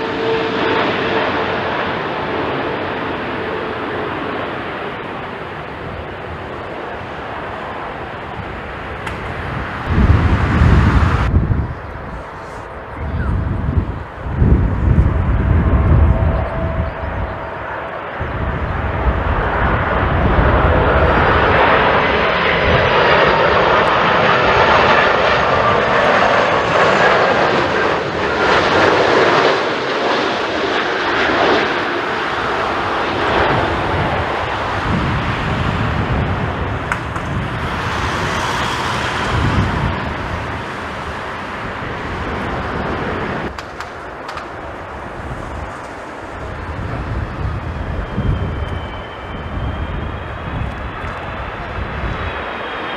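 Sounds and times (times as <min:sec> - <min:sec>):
wind buffeting microphone: 0:00.0 - 0:52.7
high turbine whine: 0:00.0 - 0:52.9
jet engines roaring: 0:00.0 - 0:52.9.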